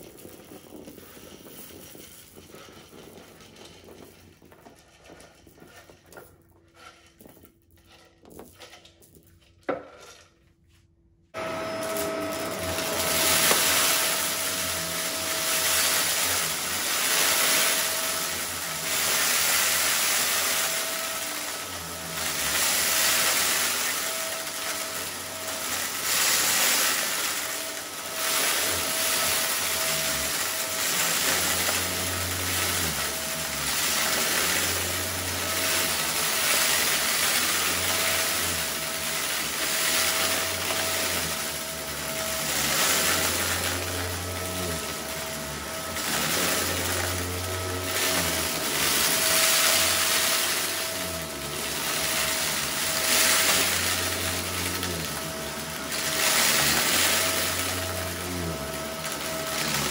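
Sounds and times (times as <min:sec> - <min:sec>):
vacuum cleaner running: 0:00.0 - 0:07.3, 0:11.3 - 0:59.9
vacuum sucking up small rocks: 0:00.0 - 0:10.1, 0:11.4 - 0:59.9.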